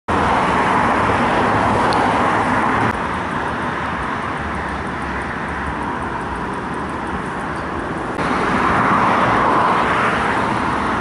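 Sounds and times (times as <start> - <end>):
traffic noise: 0.1 - 11.0.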